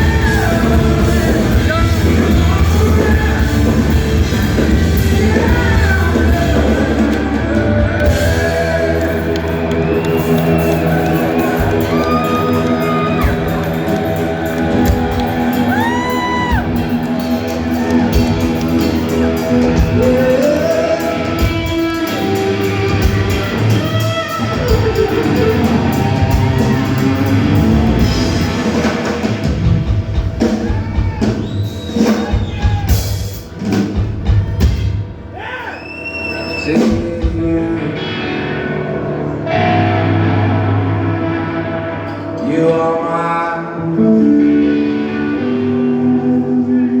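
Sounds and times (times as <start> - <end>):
person singing long notes: 0.0 - 28.6, 36.6 - 47.0
drum kit: 0.0 - 38.2
electric guitar: 0.0 - 47.0.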